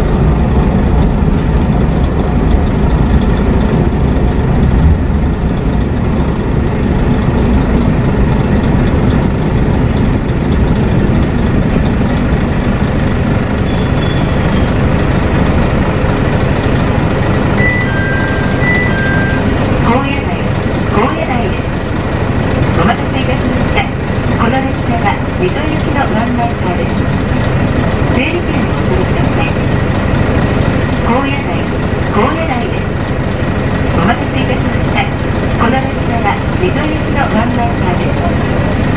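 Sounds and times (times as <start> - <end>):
diesel engine rumble: 0.0 - 38.9
train wheels on rails: 0.0 - 38.9.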